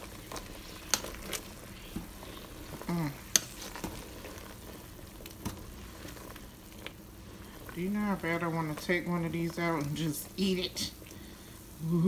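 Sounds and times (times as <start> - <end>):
water boiling and bubbling: 0.0 - 12.0.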